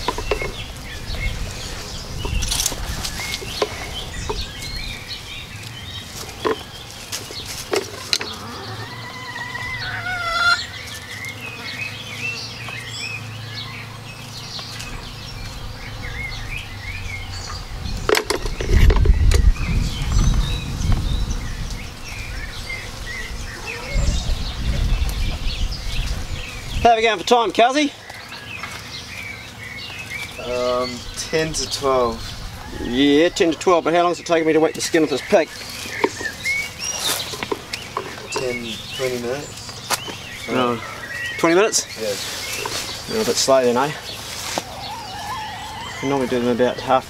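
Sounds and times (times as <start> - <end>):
chickens calling: 0.0 - 47.0
wild birds chirping: 0.0 - 47.0.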